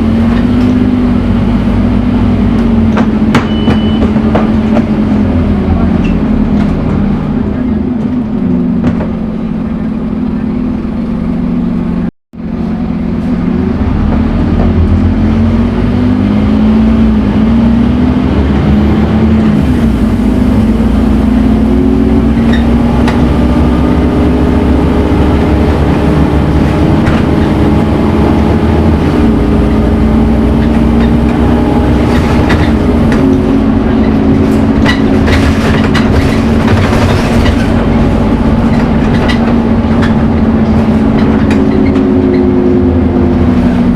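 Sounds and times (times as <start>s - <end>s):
bus engine accelerating: 0.0s - 43.9s.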